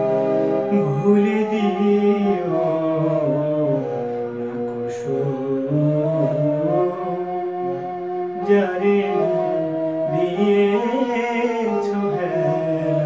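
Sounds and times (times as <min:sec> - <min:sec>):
electronic keyboard: 0:00.0 - 0:13.0
man singing held notes: 0:00.6 - 0:07.5, 0:08.4 - 0:13.0.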